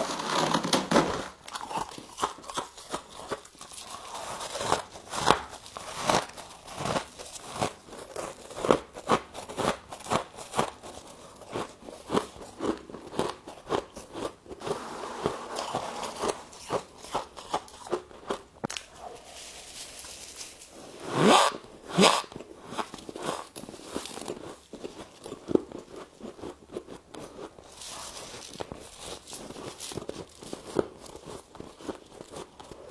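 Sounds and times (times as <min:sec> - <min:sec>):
ice being chewed: 0:01.4 - 0:32.9.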